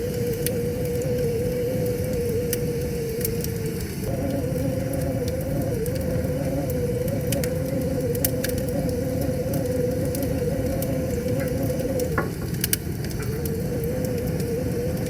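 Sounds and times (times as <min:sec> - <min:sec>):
fire pops: 0:00.0 - 0:15.0
wavering tone: 0:00.0 - 0:15.0
wood fire crackling: 0:00.0 - 0:15.0.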